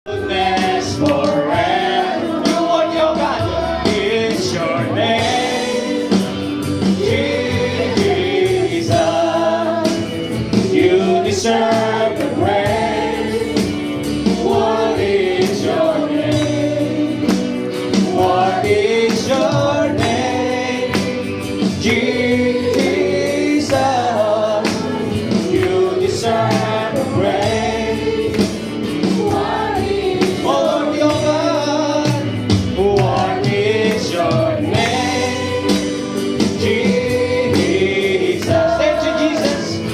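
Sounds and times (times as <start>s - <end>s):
choir singing gospel: 0.1s - 39.9s
instrumental accompaniment: 0.1s - 39.9s
steady percussive beat: 0.1s - 39.9s.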